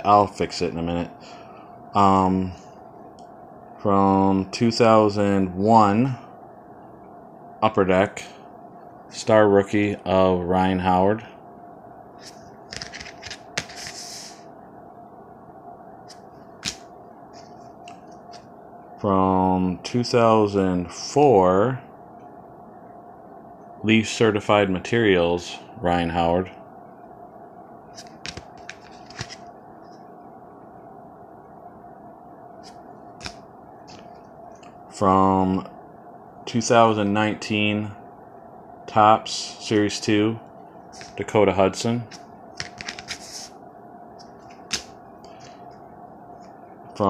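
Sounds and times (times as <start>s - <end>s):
steady background hum: 0.0s - 47.0s.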